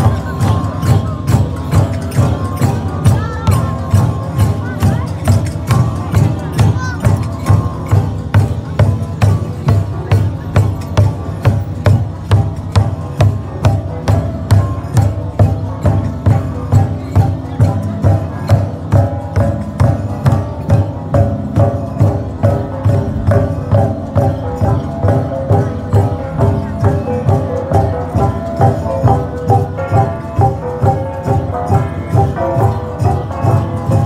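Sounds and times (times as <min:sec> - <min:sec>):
gong ensemble playing: 0:00.0 - 0:34.0.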